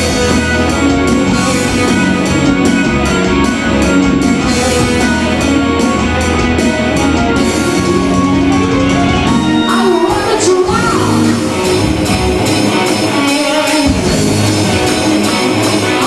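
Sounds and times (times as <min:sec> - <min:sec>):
bass guitar: 0:00.0 - 0:16.0
drum kit beat: 0:00.0 - 0:16.0
electric guitars: 0:00.0 - 0:16.0.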